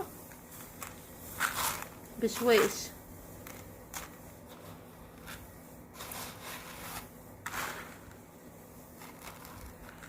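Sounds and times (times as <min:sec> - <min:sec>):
hands stirring dry grain: 0:00.0 - 0:10.0.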